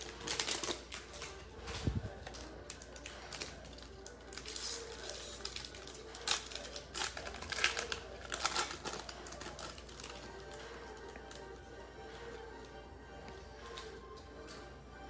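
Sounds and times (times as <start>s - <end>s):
wrapper crinkling: 0.0s - 12.3s.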